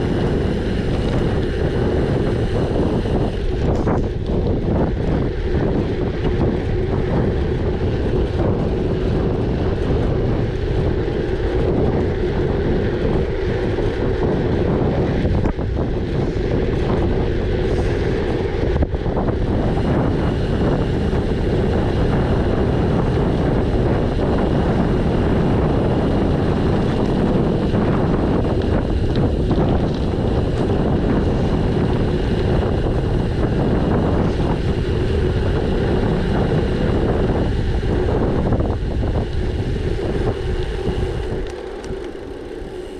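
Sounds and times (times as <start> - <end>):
bike rumbling on gravel track: 0.0 - 42.9
wind buffeting microphone: 0.0 - 42.9.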